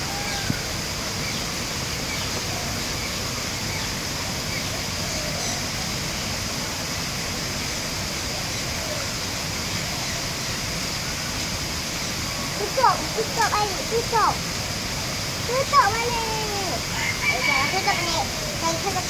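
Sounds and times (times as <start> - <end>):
small waterfall rushing: 0.0 - 19.0.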